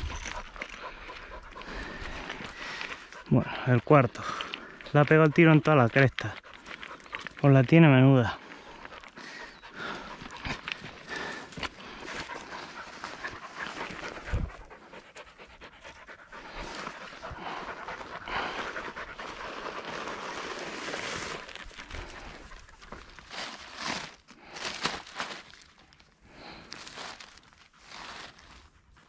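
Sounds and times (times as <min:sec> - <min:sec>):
dog panting: 0:00.0 - 0:23.3.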